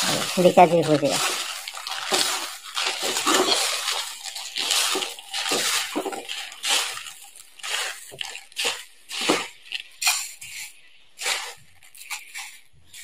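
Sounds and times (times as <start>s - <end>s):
dry snack crunching: 0.0s - 13.0s
paper crinkling: 0.0s - 13.0s.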